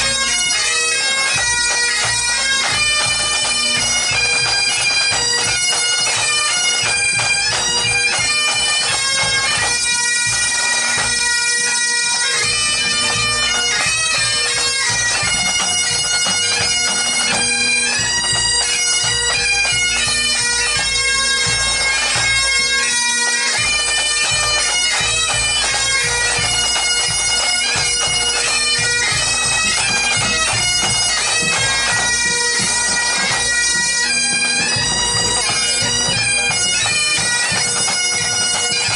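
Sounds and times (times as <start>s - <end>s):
bagpipe drones and melody: 0.0s - 38.9s
marching drums beating: 1.4s - 11.2s, 12.4s - 22.7s, 23.6s - 38.9s.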